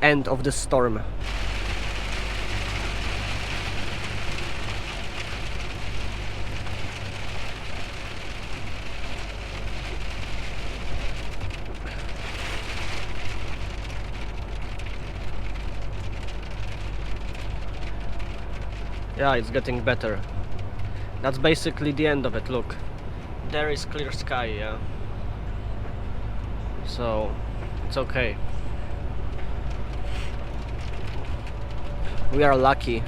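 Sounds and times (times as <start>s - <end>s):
rain hitting truck cab: 0.0s - 33.0s
truck engine drone: 0.0s - 33.0s.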